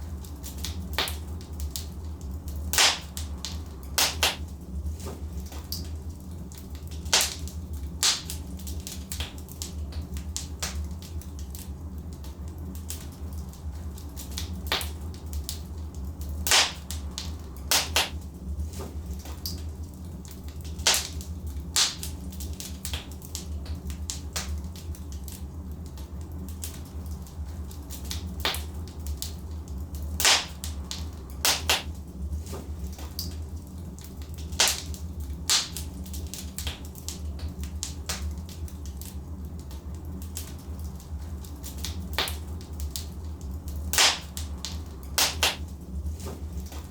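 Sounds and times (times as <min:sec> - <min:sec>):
fire crackles and pops: 0:00.0 - 0:46.9
fire low rumble: 0:00.0 - 0:46.9.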